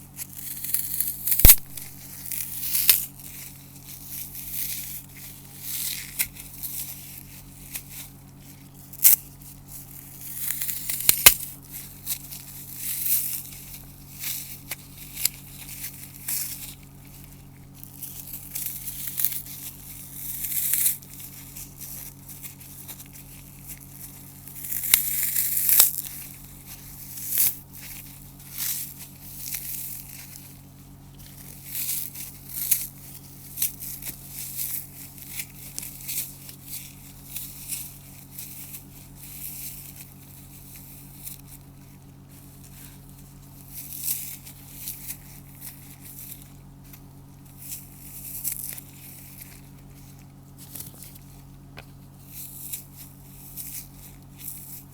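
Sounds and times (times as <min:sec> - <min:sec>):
faint low hum: 0:00.0 - 0:54.9
floral foam crunching: 0:00.0 - 0:54.9.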